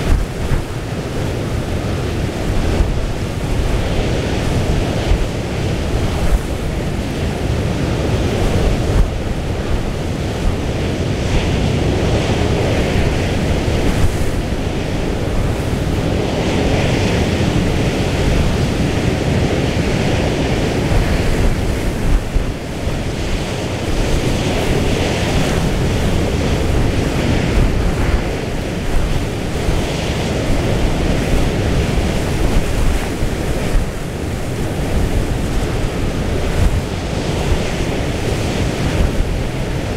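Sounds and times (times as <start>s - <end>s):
rough sea with breaking waves: 0.0s - 39.9s
wind buffeting microphone: 0.0s - 39.9s.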